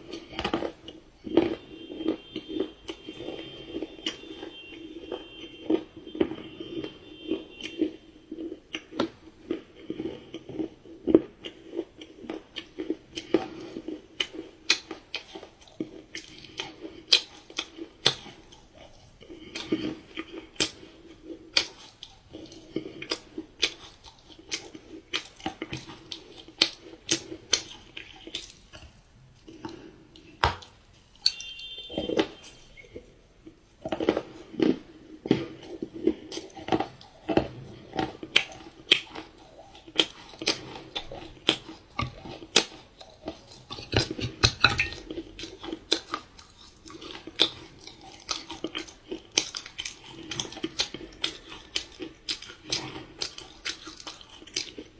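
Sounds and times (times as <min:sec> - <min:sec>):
close chewing with wet clicks: 0:00.0 - 0:54.9.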